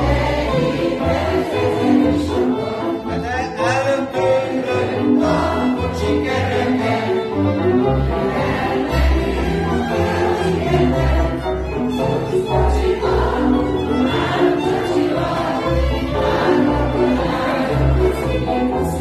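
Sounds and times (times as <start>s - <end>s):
double bass and violins accompaniment: 0.0s - 19.0s
lead violin melody: 0.0s - 19.0s.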